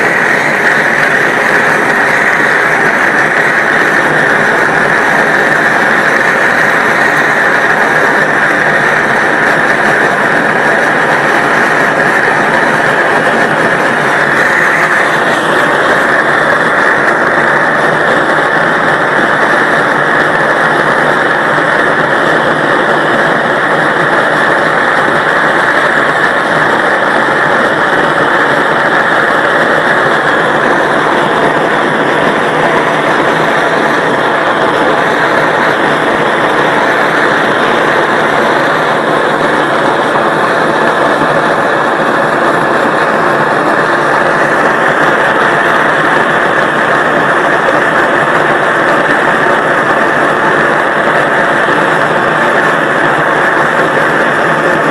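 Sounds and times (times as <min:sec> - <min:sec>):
gas torch flame hissing: 0:00.0 - 0:54.9.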